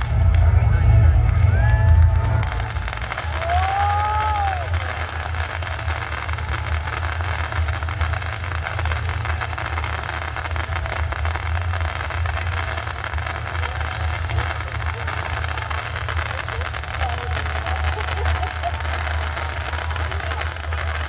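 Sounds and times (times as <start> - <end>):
fireworks hissing and crackling: 0.0 - 21.0.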